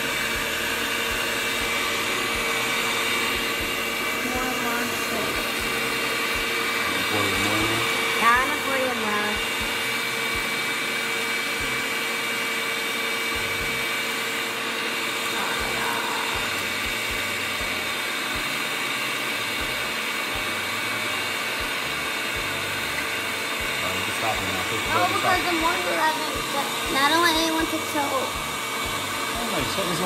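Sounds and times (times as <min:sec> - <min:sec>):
electric stand mixer whirring: 0:00.0 - 0:30.0.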